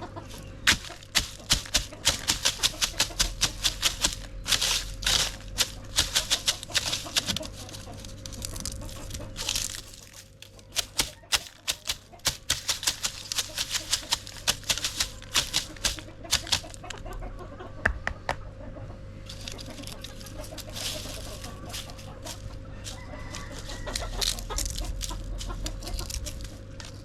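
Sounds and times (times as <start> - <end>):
chickens pecking on hard surface: 0.0 - 18.5, 19.2 - 27.0
grain rustling: 0.1 - 17.2, 19.2 - 27.0.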